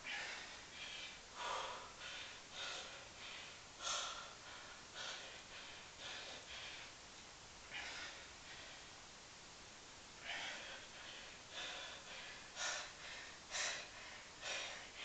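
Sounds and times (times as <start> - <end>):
man breathing hard: 0.0 - 9.0, 10.2 - 15.0.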